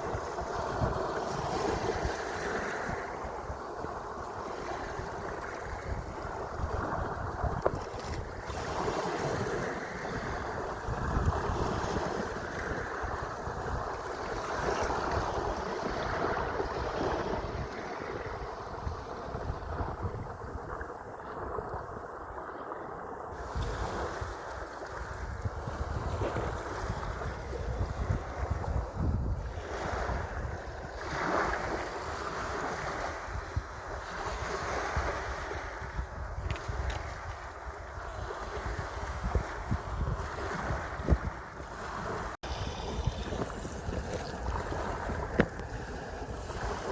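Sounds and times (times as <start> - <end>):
sea waves washing: 0.0 - 46.9
wind buffeting microphone: 0.0 - 46.9.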